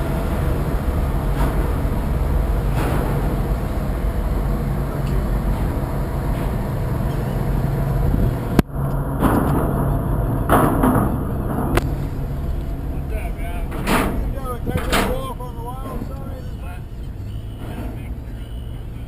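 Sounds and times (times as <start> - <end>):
boat engine drone: 0.0 - 19.0
rushing swells: 0.0 - 19.0.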